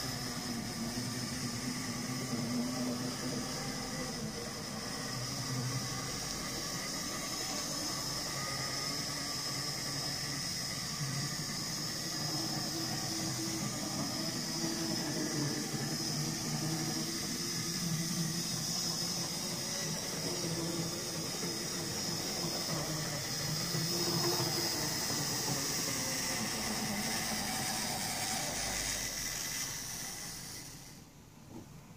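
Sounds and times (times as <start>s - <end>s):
wheels rolling on rails: 0.0s - 31.0s
model train motor hum: 0.0s - 31.1s.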